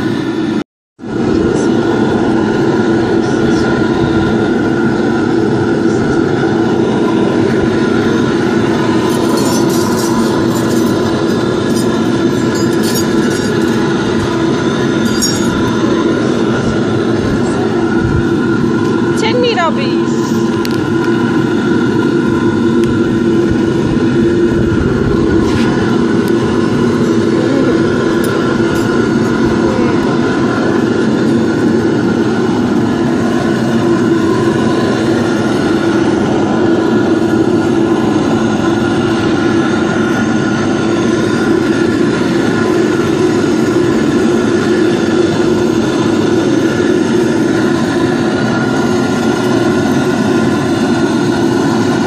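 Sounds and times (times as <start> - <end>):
furnace mechanical drone: 0.0 - 52.0.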